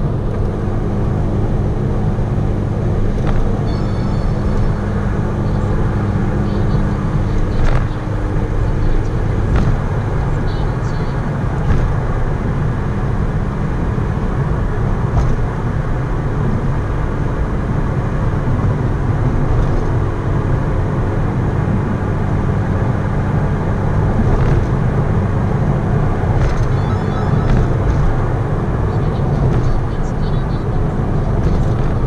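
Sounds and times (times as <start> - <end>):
car engine cruising: 0.0 - 32.0
tyre and road noise: 0.0 - 32.0.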